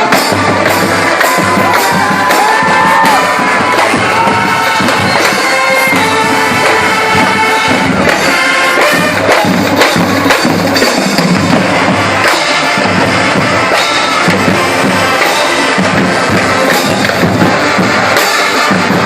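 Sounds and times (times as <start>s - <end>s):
marching drums striking: 0.0s - 19.0s
brass holding chords: 3.0s - 19.0s.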